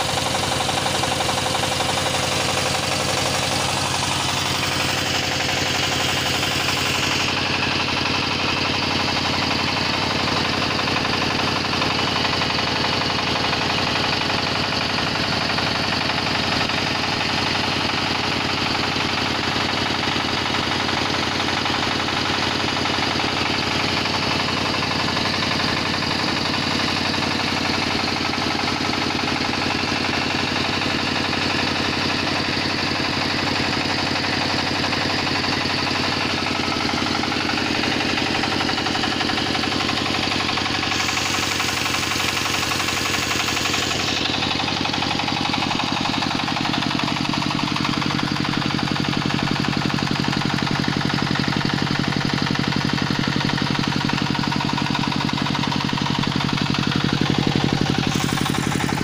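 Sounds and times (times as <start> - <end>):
diesel engine knocking steadily: 0.0 - 59.0.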